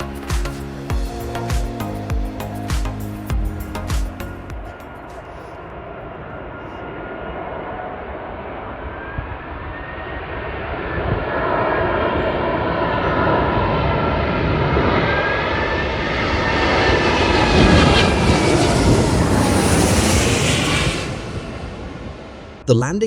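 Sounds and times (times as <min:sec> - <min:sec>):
jet engines roaring with whine: 0:03.8 - 0:22.6.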